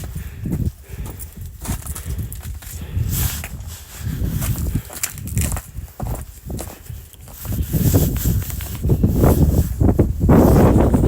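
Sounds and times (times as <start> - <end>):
footsteps crunching through snow: 0.0 - 11.0
wind buffeting microphone: 0.0 - 11.0.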